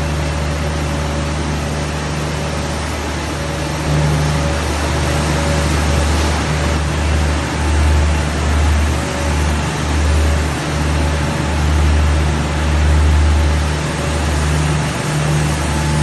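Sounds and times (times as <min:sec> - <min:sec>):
laminating machine whirring: 0:00.0 - 0:16.0
loud low pulsing hum: 0:00.0 - 0:16.0.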